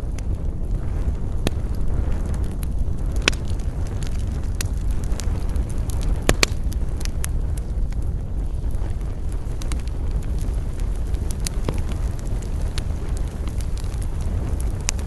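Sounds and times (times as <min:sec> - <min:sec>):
low rumble: 0:00.0 - 0:15.0
wood crackling and popping: 0:00.0 - 0:15.0.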